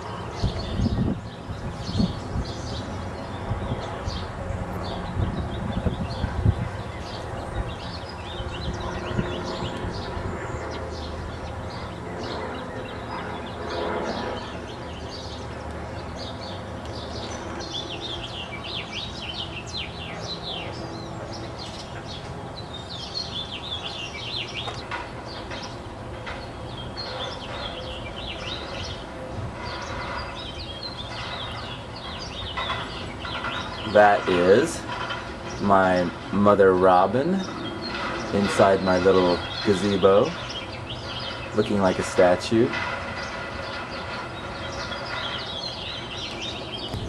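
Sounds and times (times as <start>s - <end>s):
birds chirping and singing: 0.0s - 47.0s.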